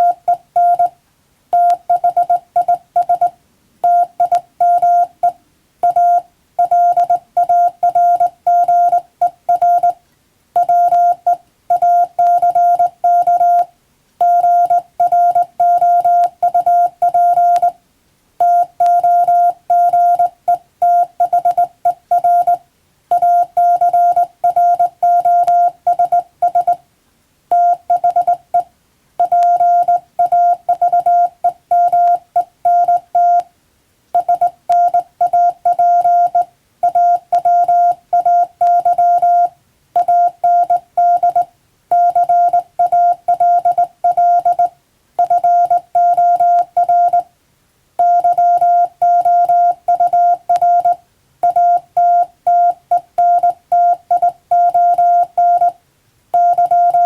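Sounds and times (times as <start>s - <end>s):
morse code tone: 0.0s - 0.9s, 1.5s - 10.0s, 10.6s - 17.8s, 18.4s - 26.8s, 27.5s - 33.5s, 34.2s - 47.3s, 48.0s - 55.8s, 56.4s - 57.0s.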